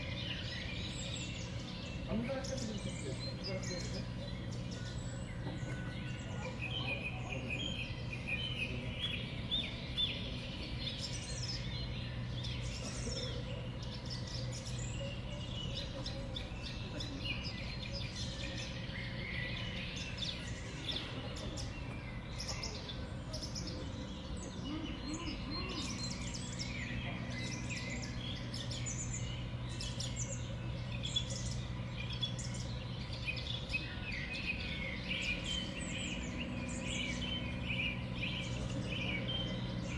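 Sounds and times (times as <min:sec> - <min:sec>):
small songbirds chirping: 0:00.0 - 0:39.9
steady low hum: 0:00.0 - 0:39.9.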